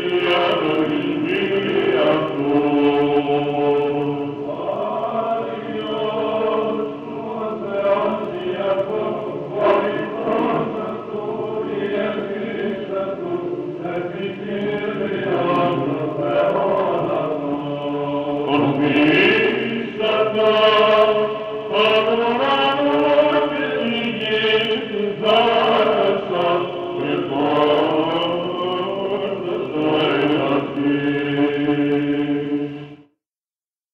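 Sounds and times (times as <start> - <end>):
choir chanting a hymn: 0.0 - 33.1.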